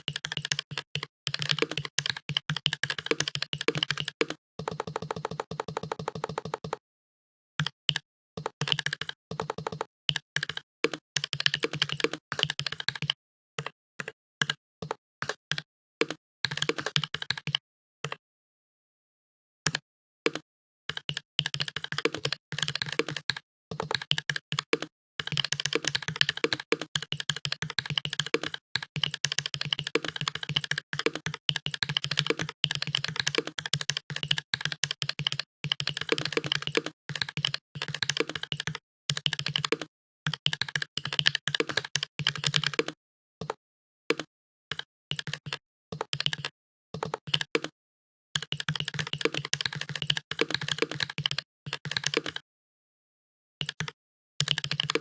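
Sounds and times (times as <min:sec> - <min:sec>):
fast typing on computer keyboard: 0:00.0 - 0:06.8, 0:07.6 - 0:13.7, 0:14.4 - 0:17.6, 0:19.7 - 0:47.8, 0:48.4 - 0:52.4, 0:53.6 - 0:55.0.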